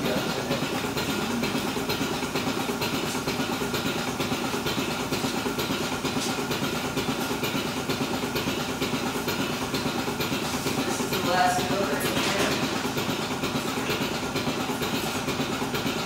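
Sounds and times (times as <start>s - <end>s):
vacuum system drone: 0.0s - 16.0s.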